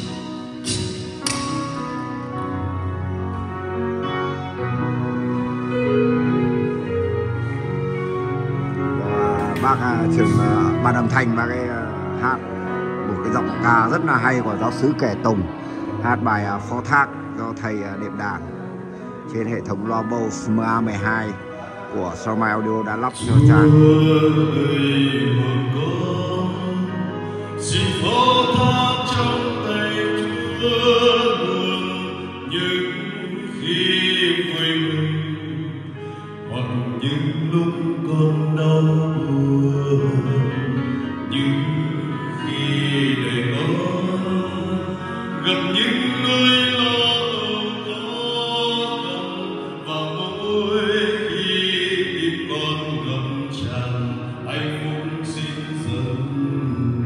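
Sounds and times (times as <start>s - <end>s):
keyboard accompaniment: 0.0s - 57.0s
man singing a hymn: 0.0s - 57.0s.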